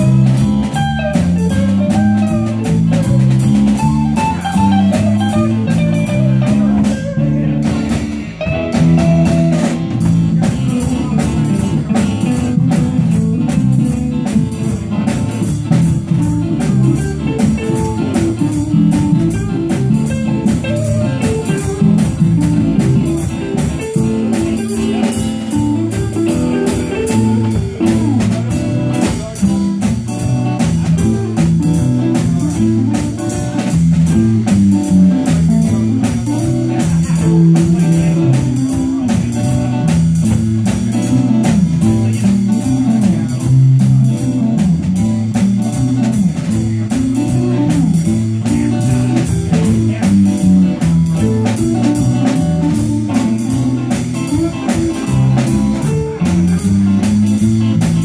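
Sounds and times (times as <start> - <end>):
bass guitar: 0.0 - 58.0
drum kit steady beat: 0.0 - 58.0
electric guitars soloing: 0.0 - 58.0.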